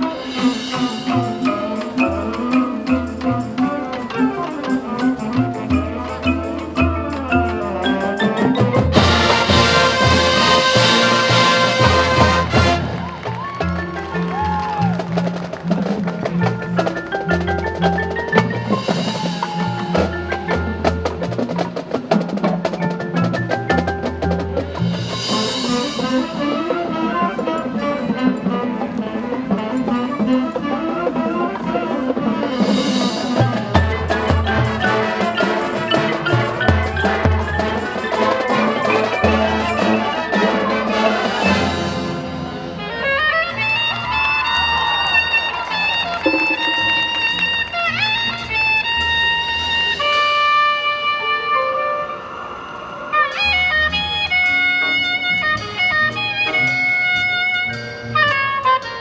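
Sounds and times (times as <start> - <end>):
marimbas and mallet percussion: 0.0 - 52.2
marching band playing: 0.0 - 59.0.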